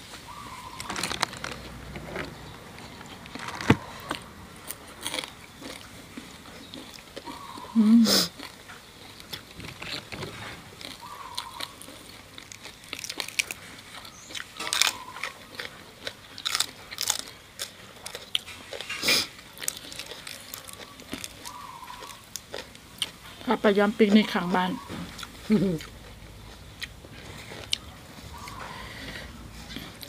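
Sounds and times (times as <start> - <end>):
people chewing crunchy food: 0.0 - 30.0.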